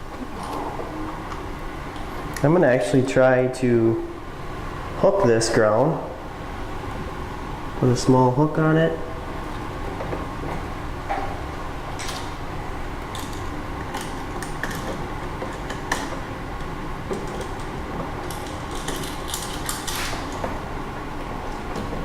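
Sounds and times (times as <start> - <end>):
steady low background hum: 0.0 - 22.0.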